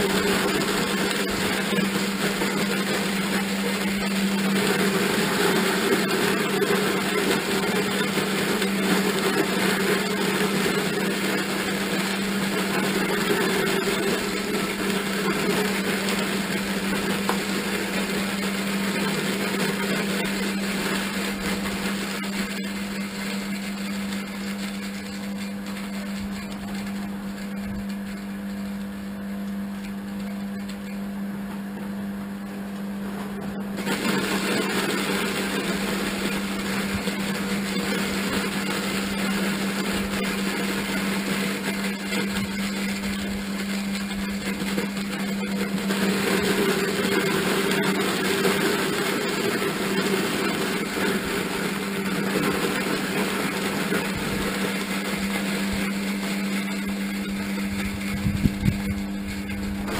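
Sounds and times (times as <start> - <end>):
electric motor humming and rattling: 0.0 - 59.9.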